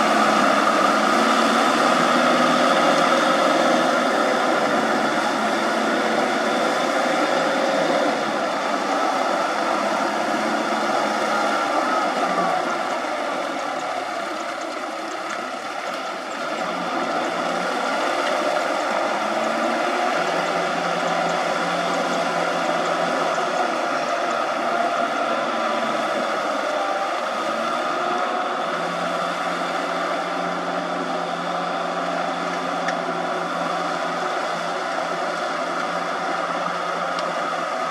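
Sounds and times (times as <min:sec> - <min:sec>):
farm machine engine running: 0:00.0 - 0:37.9.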